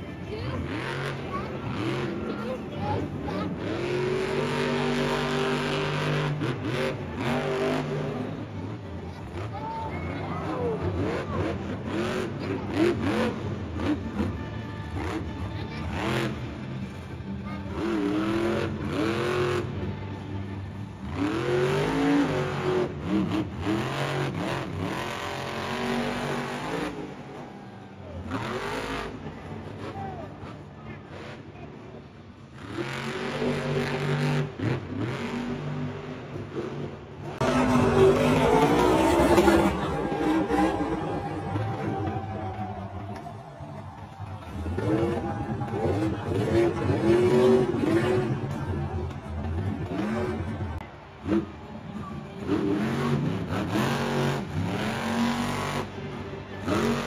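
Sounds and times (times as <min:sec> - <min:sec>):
monster truck engine revving: 0:00.0 - 0:57.0.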